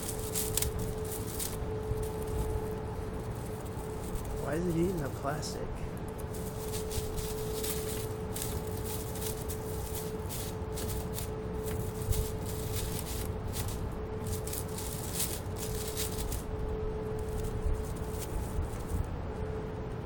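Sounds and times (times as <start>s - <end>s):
squirrel chewing crinkling plastic: 0.0s - 19.6s
steady low hum: 0.0s - 20.0s.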